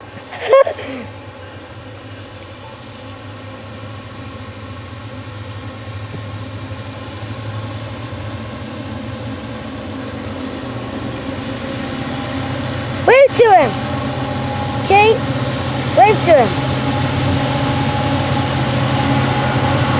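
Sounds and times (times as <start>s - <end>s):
diesel locomotive engine drone: 1.0s - 13.0s, 13.7s - 19.9s.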